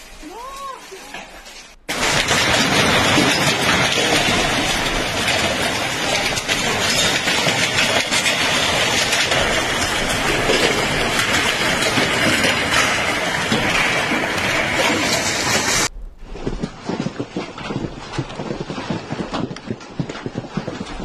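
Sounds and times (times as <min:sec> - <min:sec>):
heavy hail clattering: 0:00.0 - 0:21.0.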